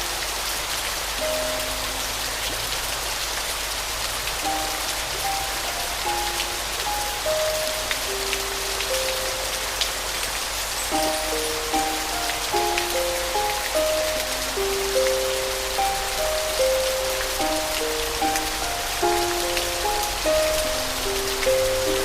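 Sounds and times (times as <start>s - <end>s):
soft piano melody: 0.0s - 22.0s
steady rain: 0.0s - 22.0s.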